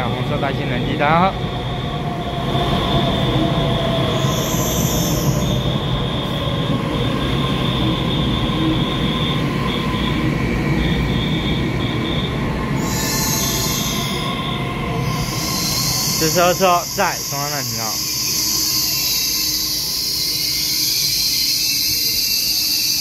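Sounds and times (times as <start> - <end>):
train wheels rumbling on rails: 0.0 - 23.0
steady high-pitched tone: 2.8 - 23.0.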